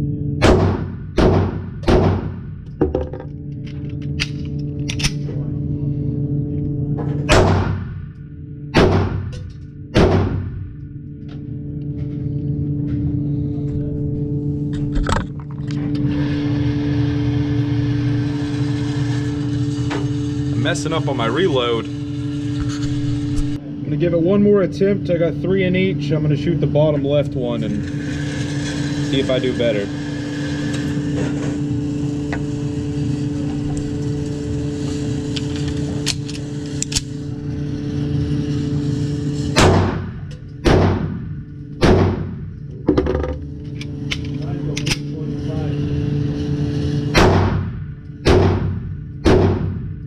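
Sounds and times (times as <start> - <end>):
electric target carrier running: 0.0 - 50.0
machinery hum: 0.0 - 50.0.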